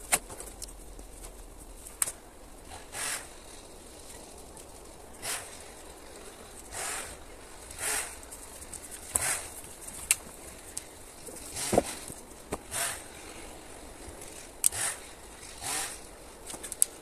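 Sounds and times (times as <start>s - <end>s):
faint steady hiss: 0.0s - 17.0s
rustling crunches of brushwood: 0.0s - 17.0s.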